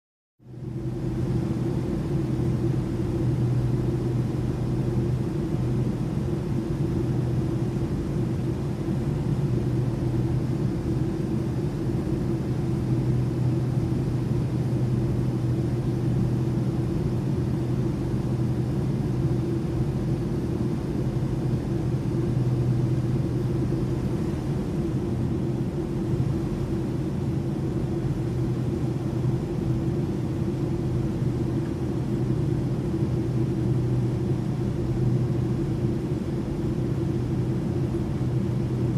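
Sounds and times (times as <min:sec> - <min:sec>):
aeroplane engine and airflow drone: 0:00.4 - 0:38.9
constant low hum: 0:00.4 - 0:38.9.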